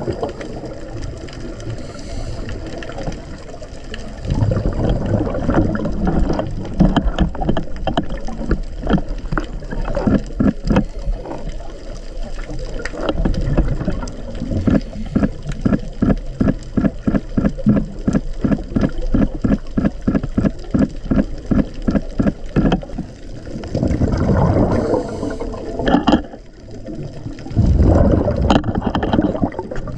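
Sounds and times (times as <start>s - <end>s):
underwater regulator bubbles gurgling: 0.0s - 29.9s.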